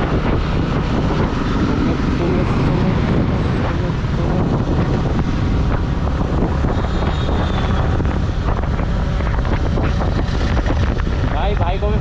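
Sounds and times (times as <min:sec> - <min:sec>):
motorcycle engine running: 0:00.0 - 0:12.0
road noise: 0:00.0 - 0:12.0
wind buffeting microphone: 0:00.0 - 0:12.0.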